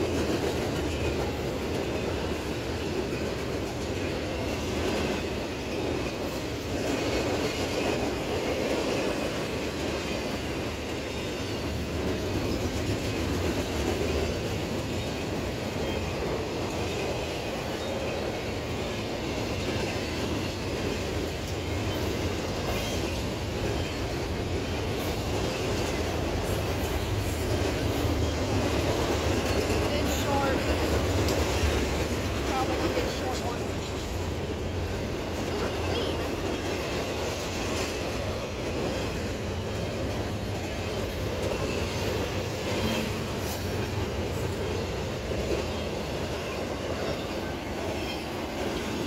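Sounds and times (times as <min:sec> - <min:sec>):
freight train wheels rumbling on rail: 0:00.0 - 0:49.0.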